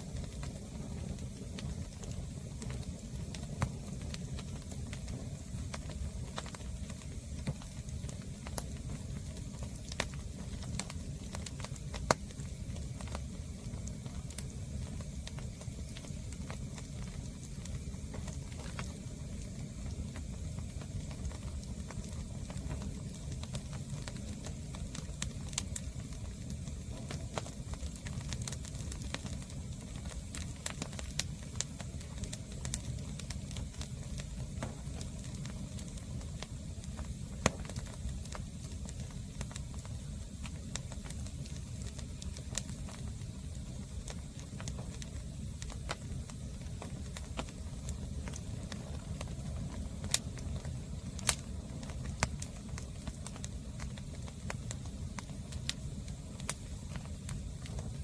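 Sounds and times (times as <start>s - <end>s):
fire crackling and popping: 0.0s - 58.0s
fire low rumble: 0.0s - 58.0s.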